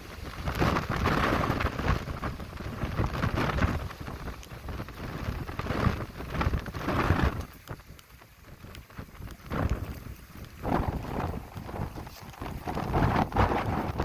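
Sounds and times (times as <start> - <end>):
rain: 0.0 - 14.0
strong gusting wind: 0.0 - 14.0
wind buffeting microphone: 0.0 - 14.0.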